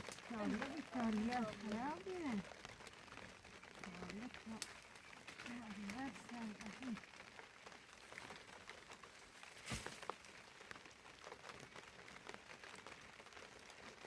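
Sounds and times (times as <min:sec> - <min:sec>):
faint ticks: 0:00.0 - 0:14.0.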